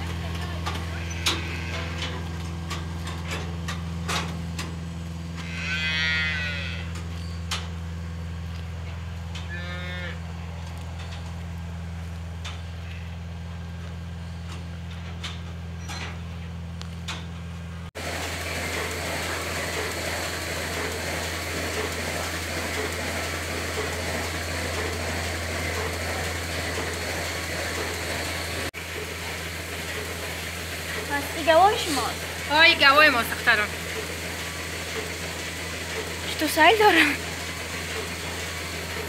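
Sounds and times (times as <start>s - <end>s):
dairy barn machinery hum: 0.0s - 39.0s.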